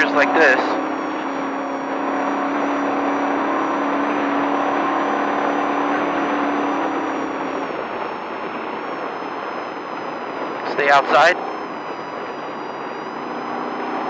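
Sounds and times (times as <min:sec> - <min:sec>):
drivetrain and tyre noise: 0:00.0 - 0:14.0
truck engine running hard: 0:00.0 - 0:14.0.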